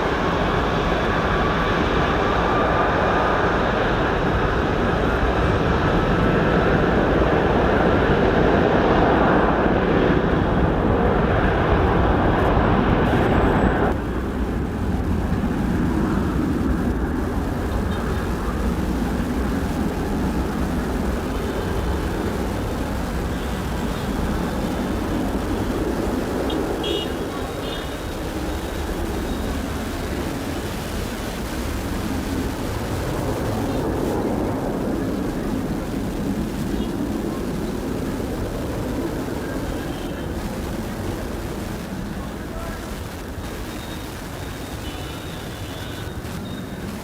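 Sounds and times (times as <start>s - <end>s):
airliner engines roaring: 0.0s - 47.0s.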